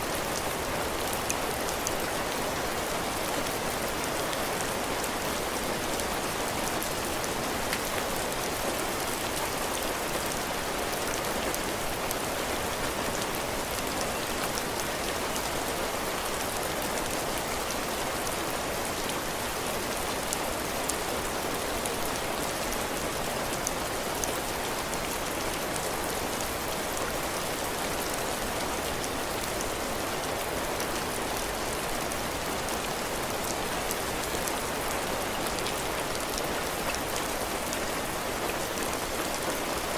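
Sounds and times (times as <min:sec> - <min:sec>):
heavy rain on a porch: 0:00.0 - 0:39.9.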